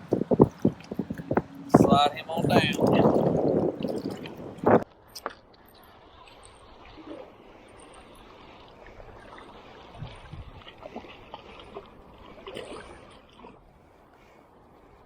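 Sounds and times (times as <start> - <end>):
sharp water splashes: 0.0 - 13.6
surf water lapping: 0.0 - 15.0.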